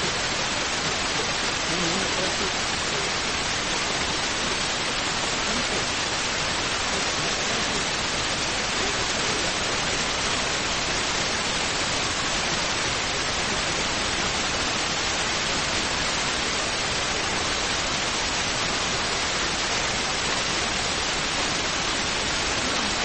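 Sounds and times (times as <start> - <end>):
steady static hiss: 0.0 - 23.0.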